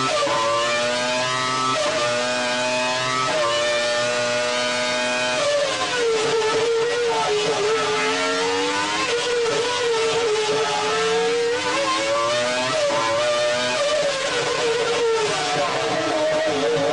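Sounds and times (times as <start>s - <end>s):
racing engine at high revs: 0.0s - 16.9s.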